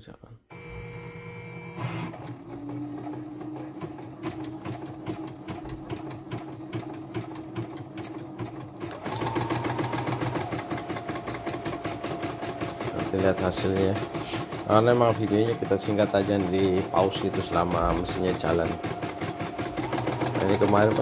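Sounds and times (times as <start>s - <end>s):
machine motor hum: 0.5s - 7.8s, 8.8s - 21.0s.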